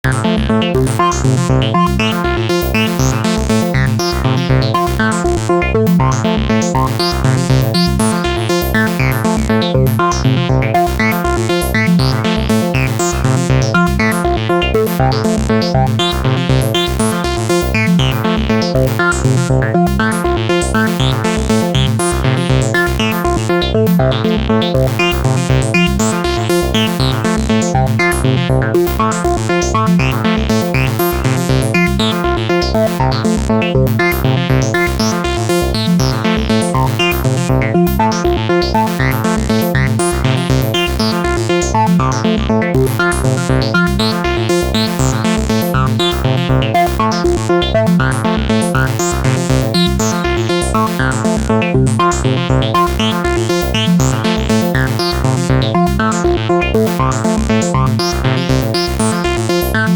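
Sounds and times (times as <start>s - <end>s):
acid synthesizer chords: 0.0s - 59.9s
fast repeating electronic pulse: 0.1s - 59.9s.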